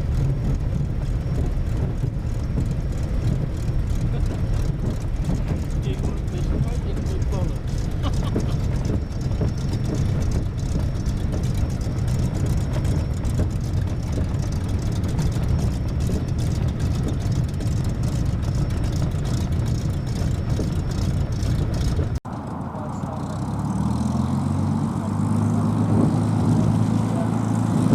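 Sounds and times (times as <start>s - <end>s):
propeller aircraft engine drone: 0.0s - 27.9s.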